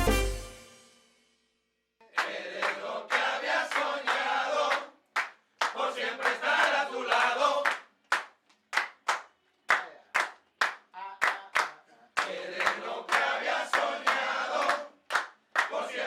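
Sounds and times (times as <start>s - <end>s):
people clapping: 2.0s - 16.0s.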